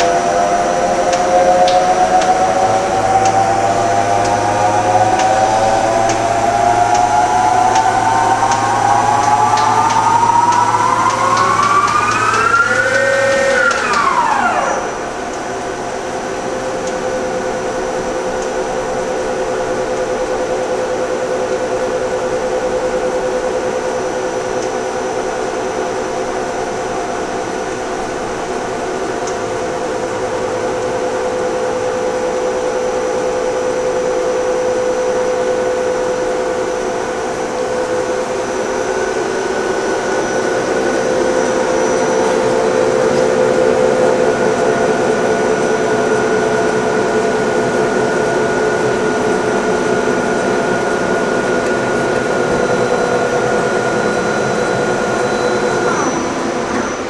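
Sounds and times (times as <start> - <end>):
lathe spindle whining: 0.0 - 57.0.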